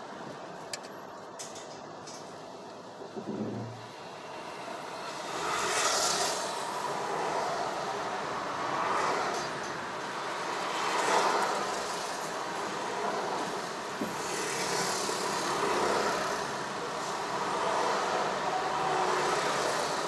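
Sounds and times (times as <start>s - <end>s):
passing traffic engines and tyres: 0.0s - 20.0s.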